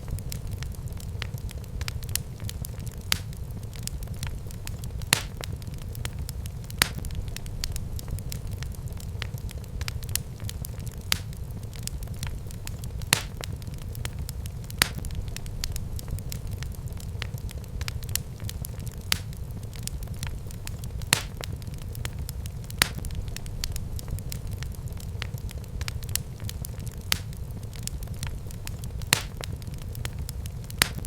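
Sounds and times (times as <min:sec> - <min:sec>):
fire crackling: 0:00.0 - 0:31.0
low rumble of flames: 0:00.0 - 0:31.0
sharp pops from fire: 0:00.0 - 0:31.0.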